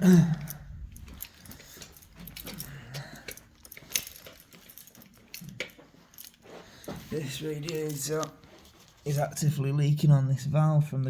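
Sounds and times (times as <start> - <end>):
clicks and rustles of handling: 0.0 - 9.4.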